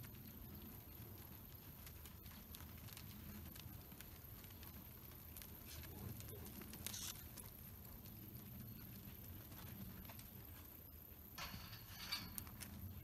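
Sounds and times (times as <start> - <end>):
hooves on loose dirt: 0.0 - 13.0.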